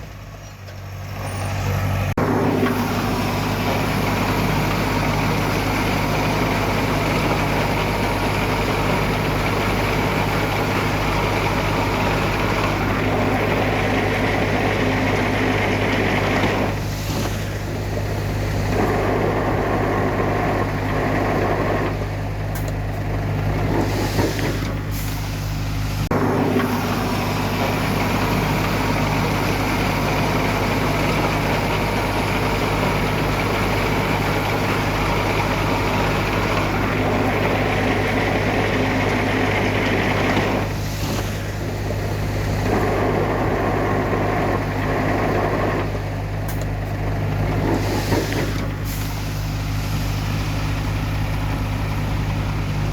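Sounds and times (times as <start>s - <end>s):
heavy diesel machinery engine drone: 0.0s - 52.9s.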